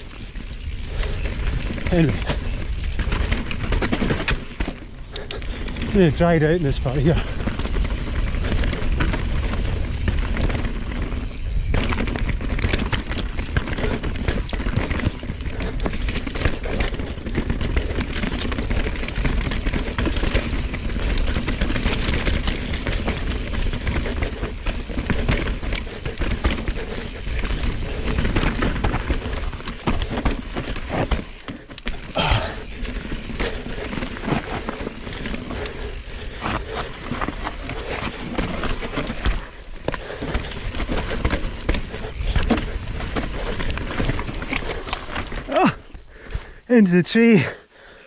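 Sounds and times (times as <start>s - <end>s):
bike rattling over bumps: 0.0s - 46.7s
bike tyres sliding on mud: 0.0s - 48.0s.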